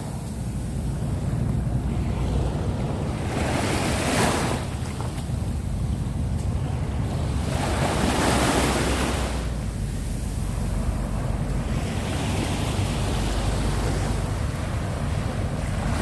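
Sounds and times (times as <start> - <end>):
sea waves washing ashore: 0.0 - 16.0
wind buffeting microphone: 0.0 - 16.0.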